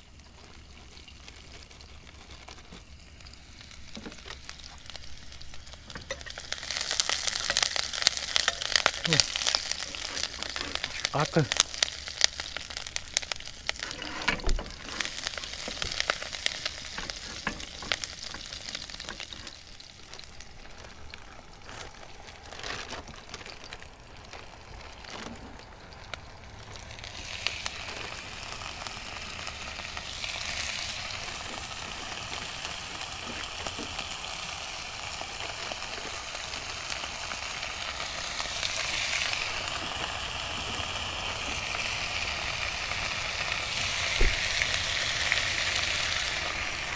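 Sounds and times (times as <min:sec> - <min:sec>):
meat sizzling in a pan: 0:00.0 - 0:22.5, 0:23.2 - 0:46.9.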